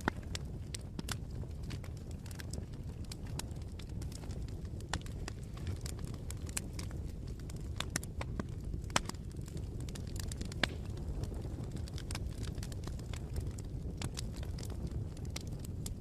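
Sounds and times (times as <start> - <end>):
bonfire crackling: 0.0 - 16.0
low steady rumble: 0.0 - 16.0.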